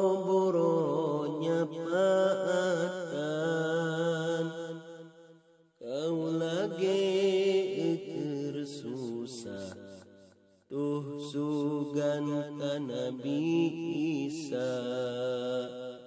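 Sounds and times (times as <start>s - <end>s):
person chanting sung poem: 0.0s - 4.9s, 5.8s - 10.0s, 10.6s - 16.0s.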